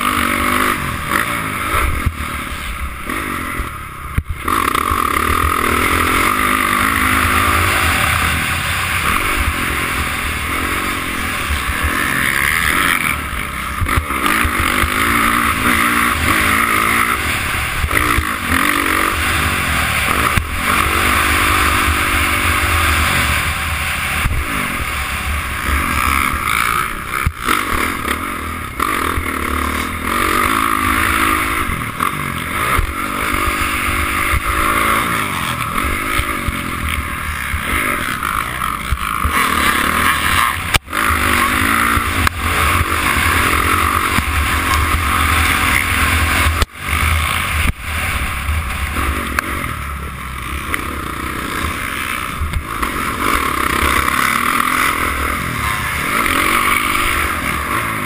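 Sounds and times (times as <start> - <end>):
dirt bike engine revving: 0.0 - 58.0
steady rush of noise: 0.0 - 58.0.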